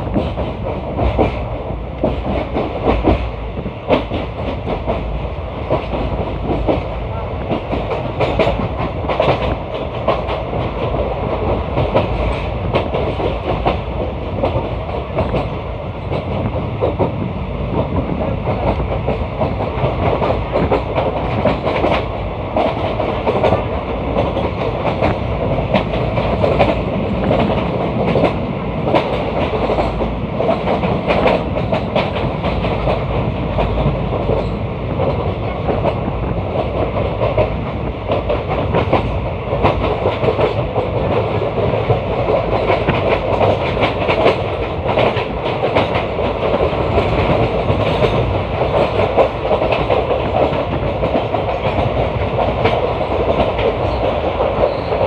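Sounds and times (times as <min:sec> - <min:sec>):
train wheels rumbling on rail: 0:00.0 - 0:55.0
wheels clacking over rail joints: 0:00.0 - 0:55.0.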